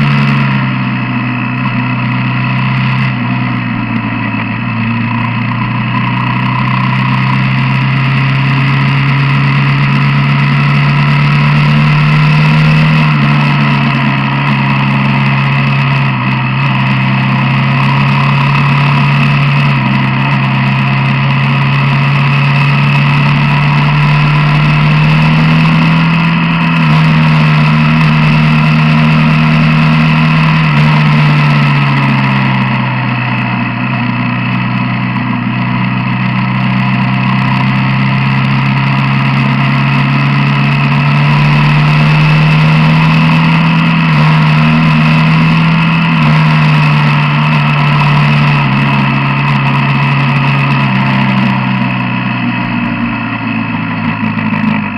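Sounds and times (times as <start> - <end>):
quad bike engine running: 0.0 - 54.9.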